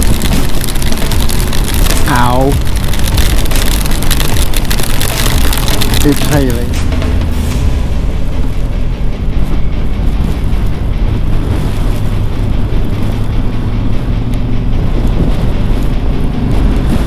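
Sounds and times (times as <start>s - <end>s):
motorcycle engine cruising: 0.0s - 17.0s
wind rush on microphone: 0.0s - 17.0s.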